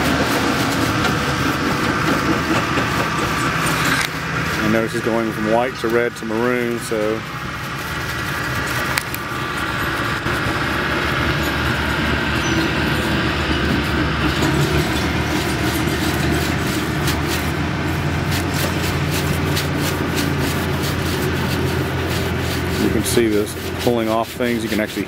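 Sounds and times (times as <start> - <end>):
heavy equipment engine drone: 0.0 - 25.0
rag scrubbing metal: 0.0 - 25.0.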